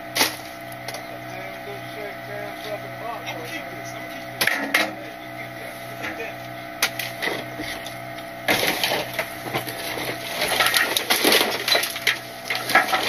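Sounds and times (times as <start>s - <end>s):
garbage truck humming: 0.0s - 13.0s
trash crunching and cracking: 0.0s - 13.0s.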